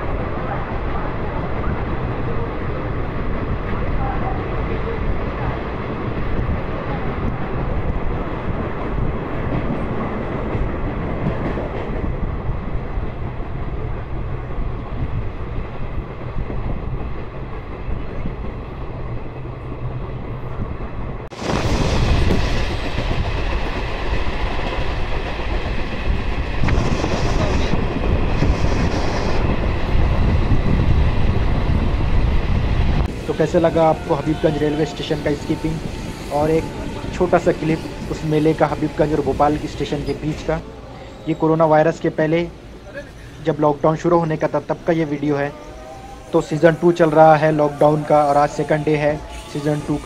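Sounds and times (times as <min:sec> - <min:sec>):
train wheels rushing on rails: 0:00.0 - 0:50.0.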